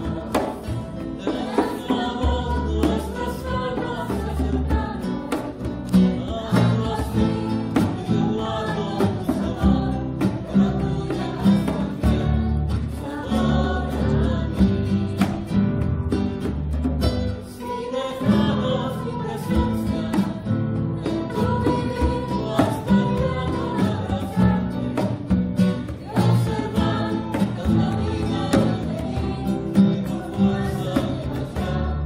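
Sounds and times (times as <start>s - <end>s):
singers in unison: 0.0s - 15.6s, 17.1s - 32.0s
classical guitars: 0.0s - 32.0s
double bass: 0.0s - 32.0s
hand drum: 0.0s - 32.0s.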